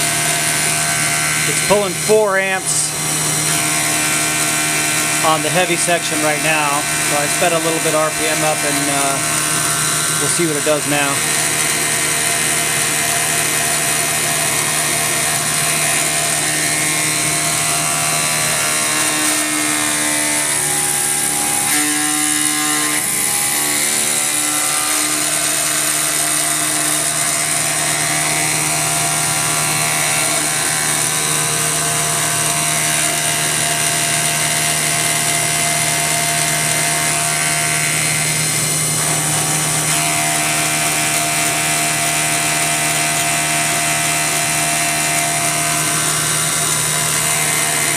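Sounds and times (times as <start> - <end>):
milling machine cutting metal: 0.0 - 47.9.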